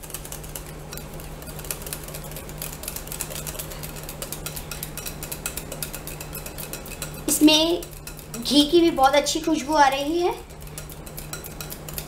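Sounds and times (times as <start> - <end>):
low steady hum: 0.0 - 12.0
utensil scraping glass bowl: 0.0 - 12.0.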